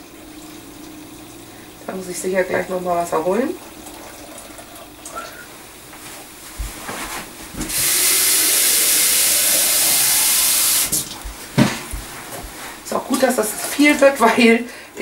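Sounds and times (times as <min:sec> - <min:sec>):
tap water running into container: 0:00.0 - 0:14.5.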